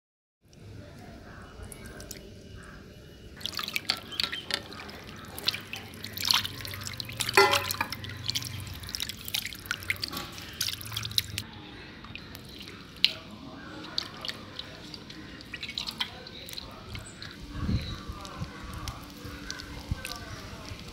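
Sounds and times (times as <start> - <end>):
water splashing in a steel bowl: 1.5 - 2.7, 3.4 - 20.9.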